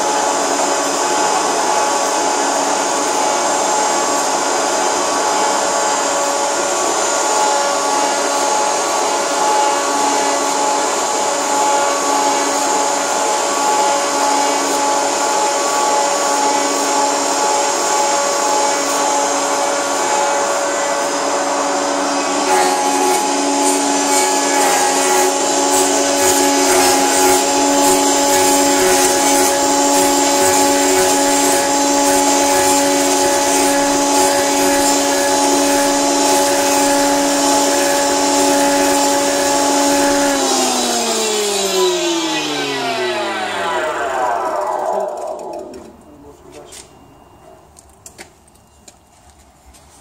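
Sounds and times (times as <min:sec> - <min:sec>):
spindles whining: 0:00.0 - 0:49.0.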